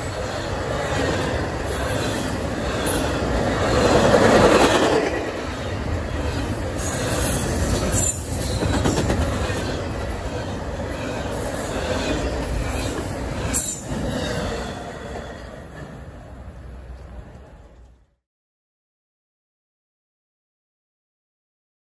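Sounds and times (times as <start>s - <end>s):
freight train wheels rumbling: 0.0s - 18.1s.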